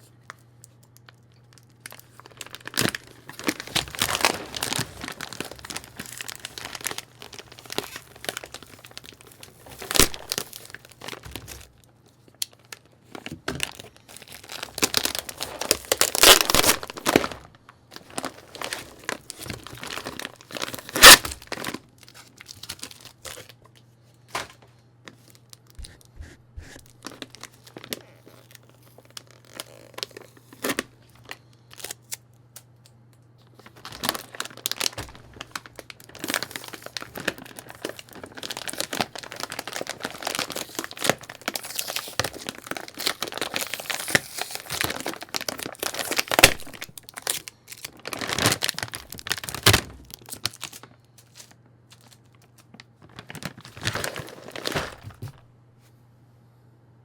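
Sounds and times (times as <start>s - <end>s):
plastic crinkling and rustling: 0.0s - 26.1s, 26.7s - 32.2s, 33.3s - 55.5s
plastic packaging tearing: 0.6s - 24.5s, 26.7s - 32.6s, 33.5s - 55.4s.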